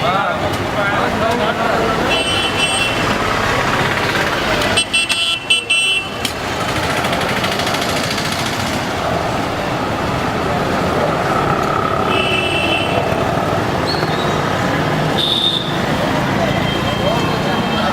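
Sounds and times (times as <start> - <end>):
street traffic noise: 0.0 - 17.9.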